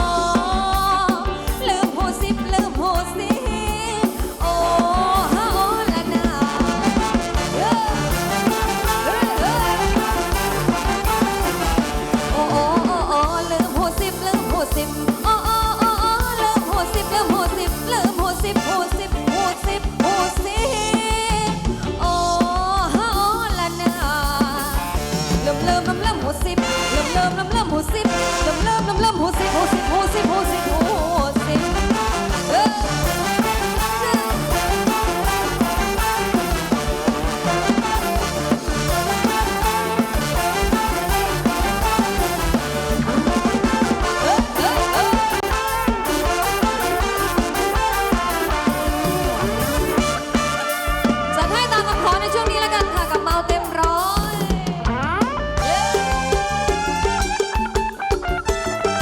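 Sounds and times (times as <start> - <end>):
live band playing dance music: 0.0 - 59.0.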